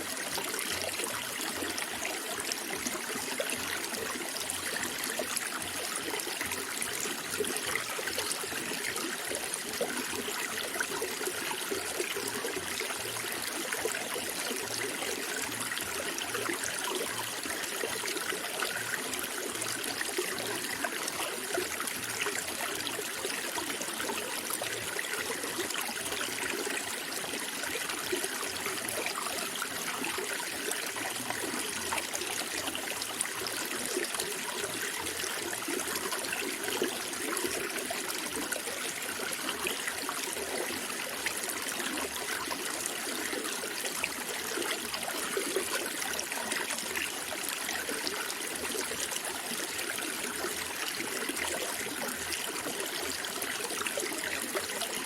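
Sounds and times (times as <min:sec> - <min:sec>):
water trickling and babbling: 0:00.0 - 0:55.0.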